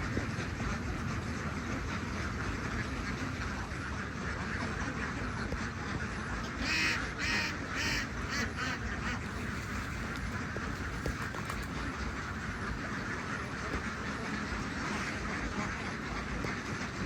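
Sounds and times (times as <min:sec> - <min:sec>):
ducks quacking: 0:00.0 - 0:17.0
steady low rumble: 0:00.0 - 0:17.0.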